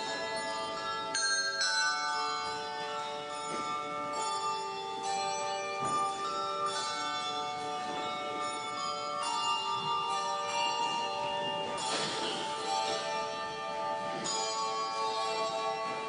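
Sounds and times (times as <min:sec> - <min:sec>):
handbells ringing chords: 0:00.0 - 0:16.0.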